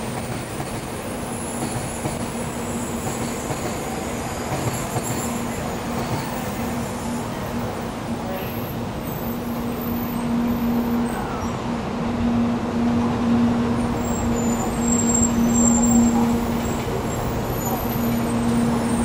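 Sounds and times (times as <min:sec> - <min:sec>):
train humming and rumbling: 0:00.0 - 0:19.0.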